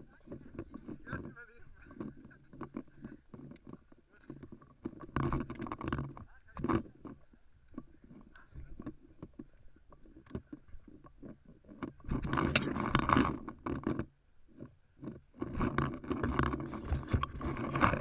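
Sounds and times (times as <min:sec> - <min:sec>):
handling noise: 0:00.0 - 0:18.0
netting rustling over camera: 0:00.0 - 0:18.0.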